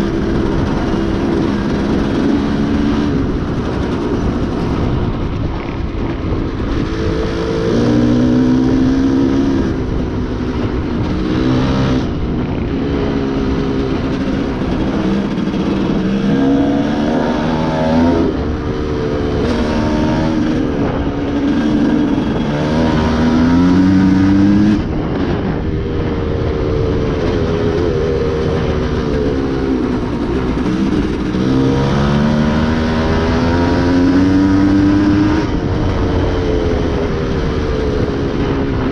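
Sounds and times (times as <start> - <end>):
dirt bike engine revving: 0.0 - 38.9
wind and terrain noise: 0.0 - 38.9.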